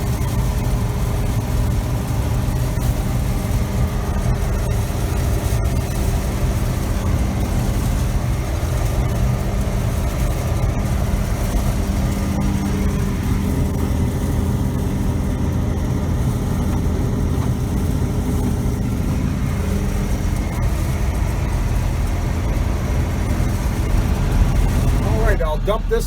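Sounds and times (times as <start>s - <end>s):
combine engine and machinery drone: 0.0s - 26.0s.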